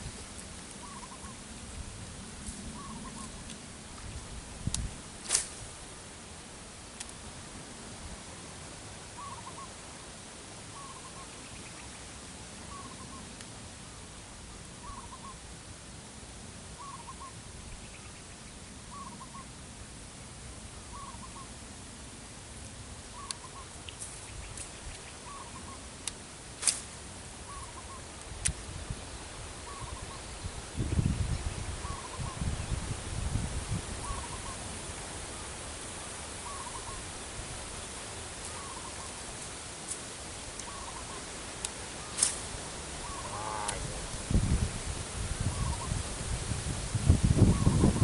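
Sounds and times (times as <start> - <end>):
steady outdoor hiss: 0.0 - 48.0.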